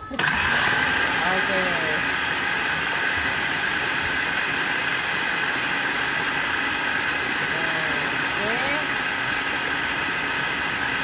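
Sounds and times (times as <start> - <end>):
food processor motor whine: 0.0 - 11.0.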